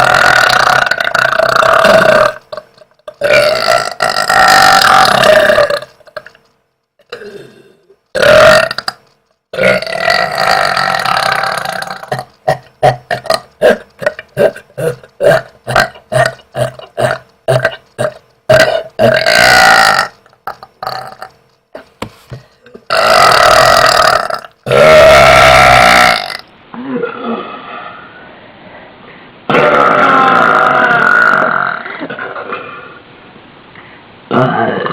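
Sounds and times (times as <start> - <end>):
woman burping: 0.0 - 6.4, 7.0 - 9.0, 9.6 - 21.9, 22.6 - 27.6, 29.5 - 32.8.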